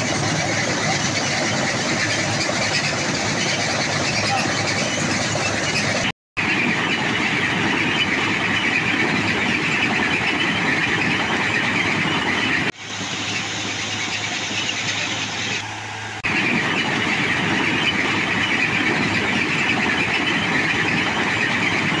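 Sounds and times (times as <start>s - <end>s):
high-pitched mechanical squeal: 0.0s - 22.0s.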